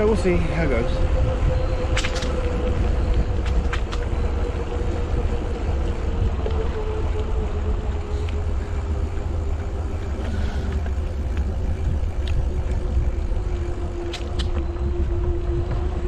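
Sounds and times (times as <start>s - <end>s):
mountain bike rolling hum: 0.0s - 16.0s
wind buffeting microphone: 0.0s - 16.0s.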